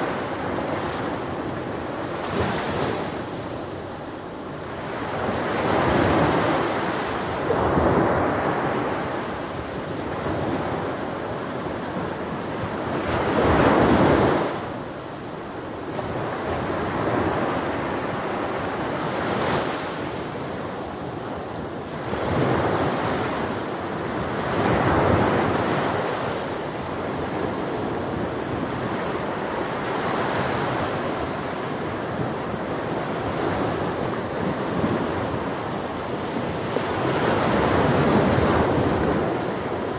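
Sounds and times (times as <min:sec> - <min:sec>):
ocean surf breaking on a beach: 0:00.0 - 0:39.9.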